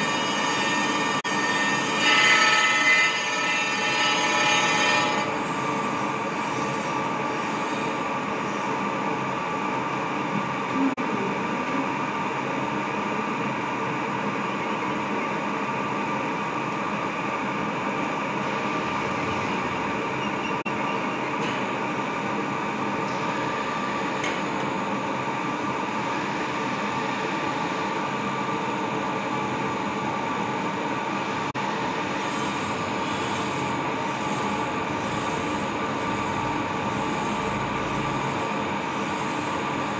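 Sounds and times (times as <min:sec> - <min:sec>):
grinding machine whine: 0:00.0 - 0:10.8, 0:14.0 - 0:39.9.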